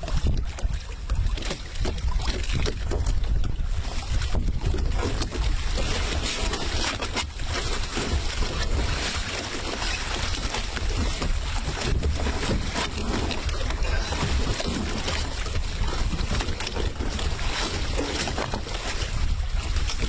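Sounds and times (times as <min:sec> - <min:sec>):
wind buffeting microphone: 0:00.0 - 0:06.3, 0:10.1 - 0:20.0.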